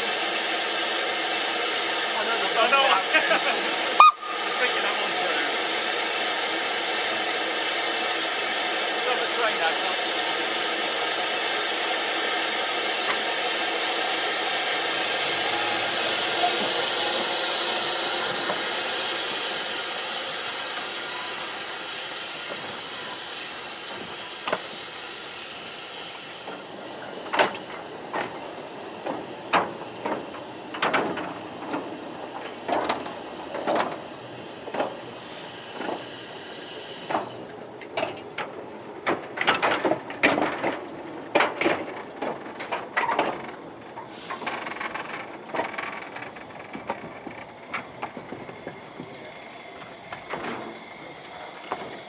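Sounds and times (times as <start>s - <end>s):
steam locomotive hissing: 0.0s - 52.0s
metallic knocks and clanks of train: 0.4s - 52.0s.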